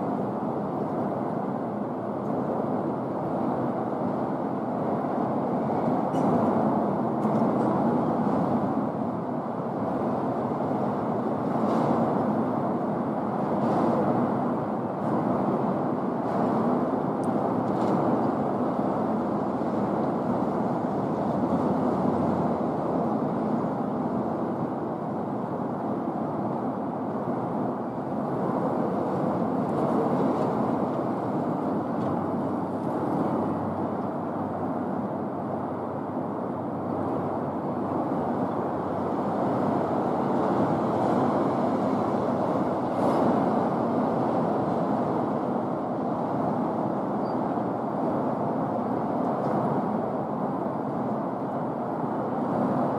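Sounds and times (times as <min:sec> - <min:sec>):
distant city traffic rumble: 0:00.0 - 0:52.9.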